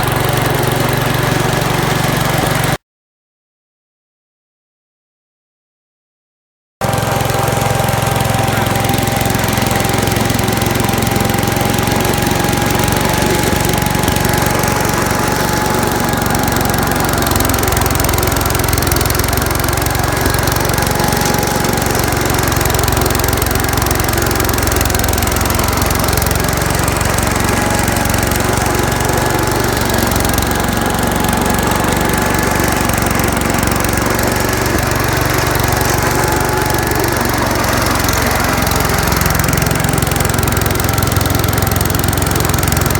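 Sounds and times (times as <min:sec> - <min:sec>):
tractor engine running: 0:00.0 - 0:02.8, 0:06.8 - 0:42.9.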